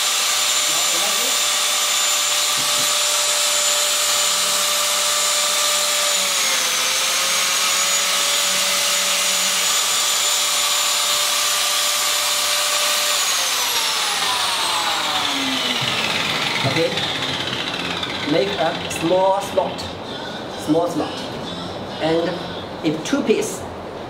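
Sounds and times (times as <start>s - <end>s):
biscuit jointer motor whining: 0.0s - 19.8s.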